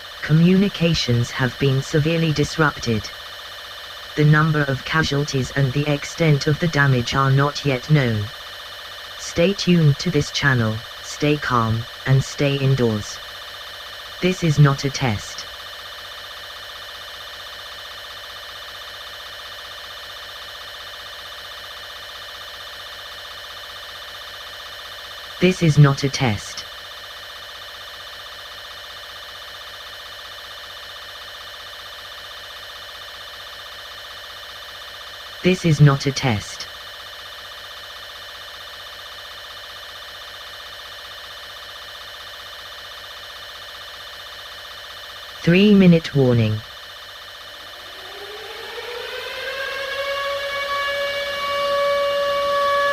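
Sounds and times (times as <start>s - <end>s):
buzzing electronic warning tone: 0.0s - 16.1s, 21.0s - 27.9s, 30.7s - 52.9s.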